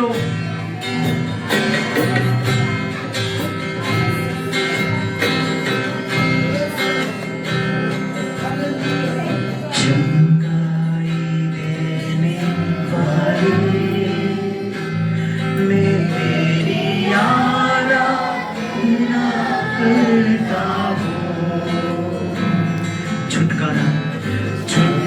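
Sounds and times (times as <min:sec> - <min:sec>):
person singing: 0:00.0 - 0:25.0
worship music chords and guitar: 0:00.0 - 0:25.0.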